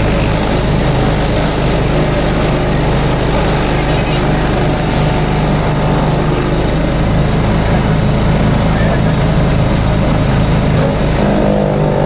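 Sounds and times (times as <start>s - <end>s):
wood chipper running: 0.0s - 12.0s.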